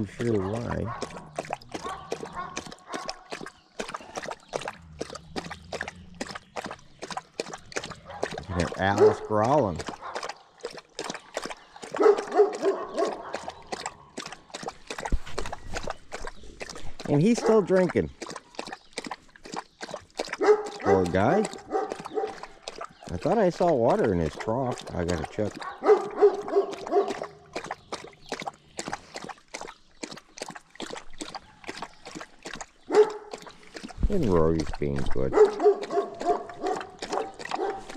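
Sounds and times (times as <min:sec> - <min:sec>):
dog lapping water: 0:00.0 - 0:37.9.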